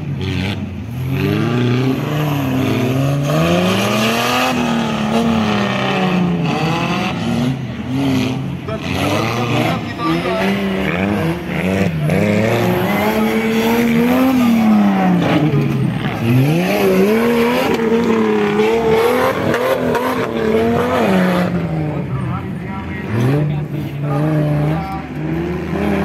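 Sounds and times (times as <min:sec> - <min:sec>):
buggy engine revving: 0:00.0 - 0:26.0.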